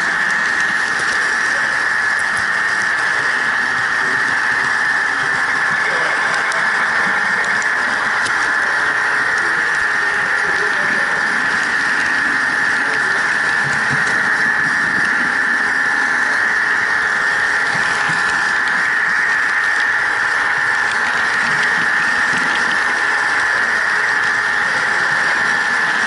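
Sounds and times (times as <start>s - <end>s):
model train motor whine: 0.0s - 26.0s.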